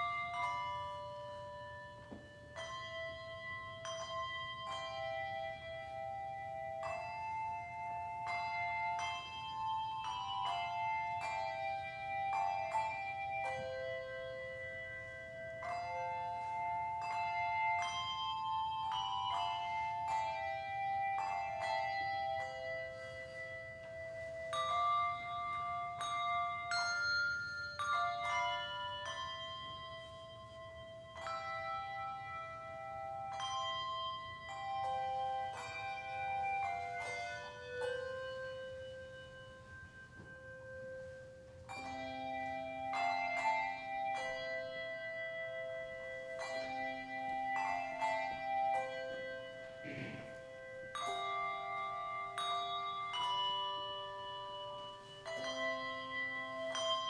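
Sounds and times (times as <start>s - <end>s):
handbell choir playing: 0.0s - 57.0s.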